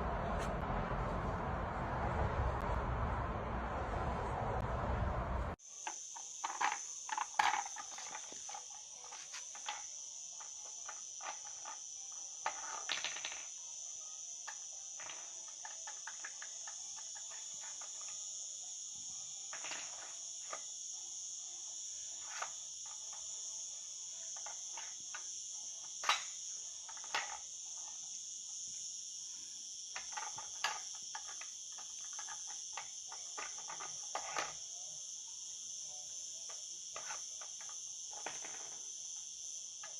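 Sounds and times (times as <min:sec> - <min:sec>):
crickets chirring: 0:05.6 - 0:39.9.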